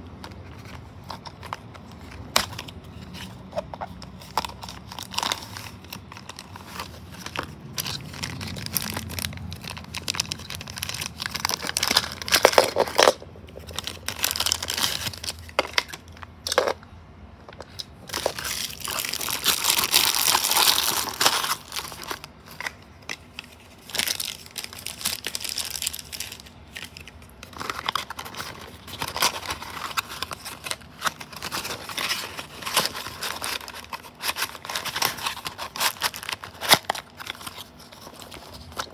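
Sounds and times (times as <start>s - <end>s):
cardboard packaging crinkling: 0.2s - 16.8s, 17.7s - 38.9s.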